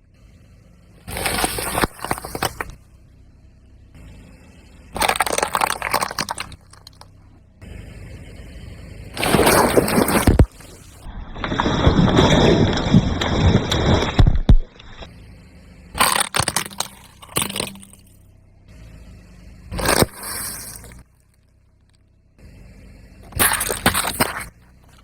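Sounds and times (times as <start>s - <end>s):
car tyre crushing objects: 0.3s - 18.8s, 19.6s - 25.0s.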